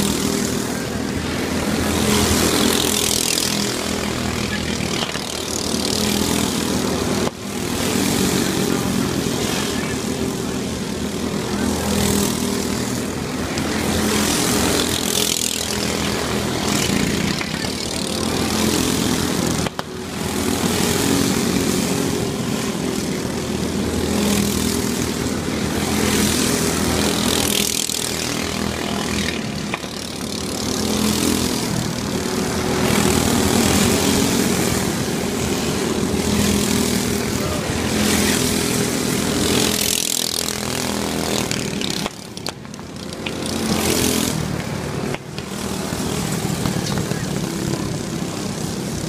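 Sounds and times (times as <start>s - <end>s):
kart engines buzzing past: 0.0s - 49.0s.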